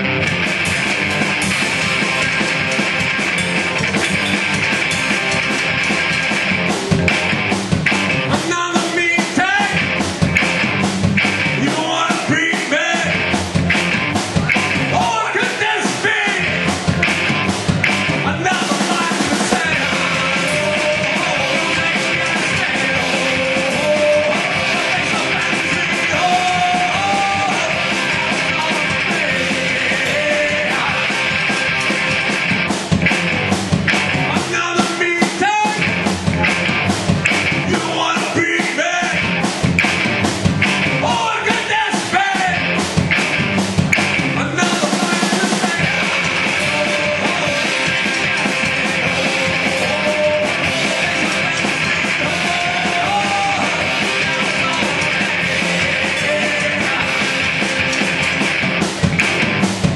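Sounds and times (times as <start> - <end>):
rock band playing loudly: 0.0 - 59.9.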